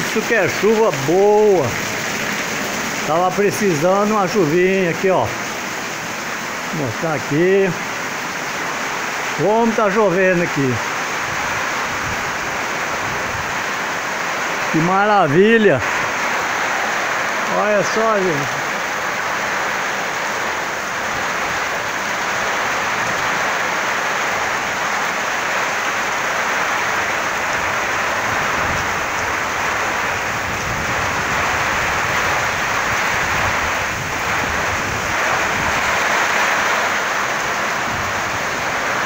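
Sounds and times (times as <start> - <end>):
heavy rain on vegetation: 0.0 - 39.0
wind gusts: 0.0 - 39.0.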